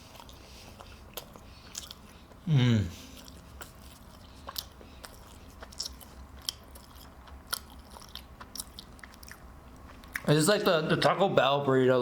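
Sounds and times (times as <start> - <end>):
chewing crunches: 0.0 - 10.4.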